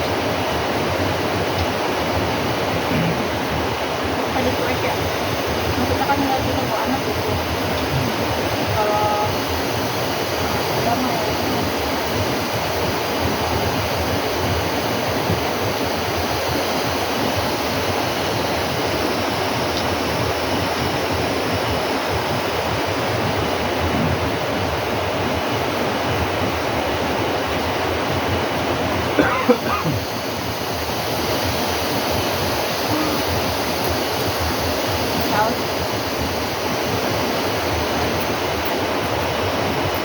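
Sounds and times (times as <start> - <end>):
running water: 0.0 - 40.0.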